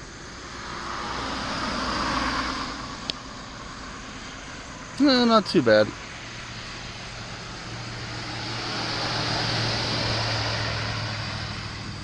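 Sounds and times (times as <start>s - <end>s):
car passing by: 0.0s - 12.0s.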